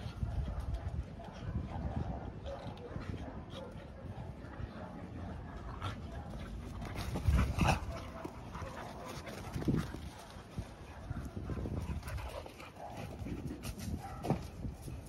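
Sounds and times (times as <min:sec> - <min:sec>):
dogs playing chase: 0:00.0 - 0:15.0.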